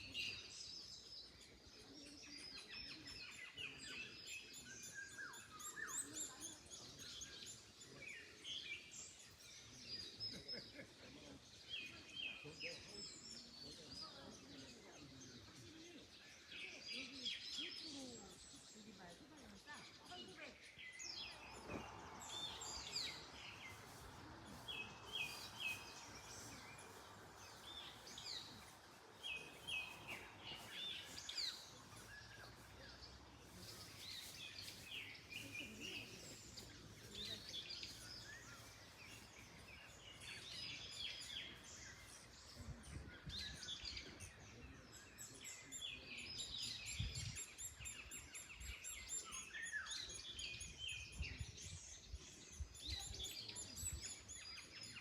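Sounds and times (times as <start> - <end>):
birds chirping and singing: 0.0 - 55.0
wind in trees: 0.0 - 55.0.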